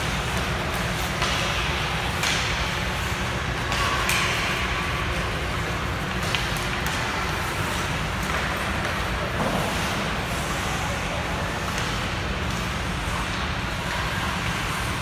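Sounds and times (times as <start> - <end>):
low rink rumble: 0.0 - 15.0.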